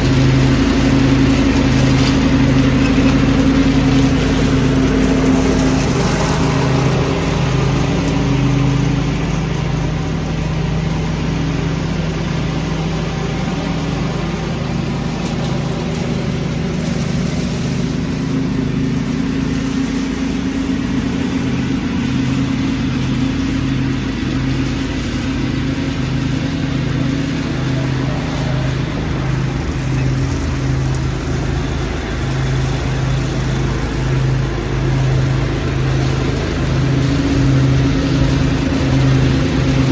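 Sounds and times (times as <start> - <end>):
lawn tractor engine humming: 0.0 - 39.9
leaf vacuum rushing noise: 0.0 - 39.9.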